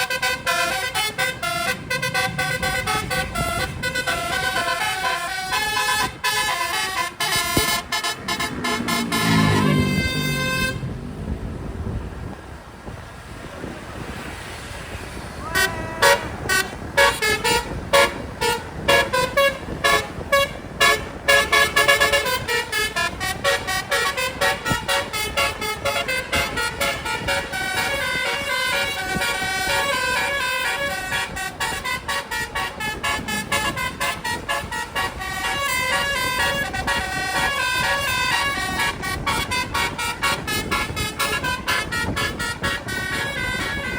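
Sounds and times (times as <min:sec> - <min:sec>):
musical air horns playing: 0:00.0 - 0:11.0, 0:15.4 - 0:43.9
road noise: 0:00.0 - 0:43.9.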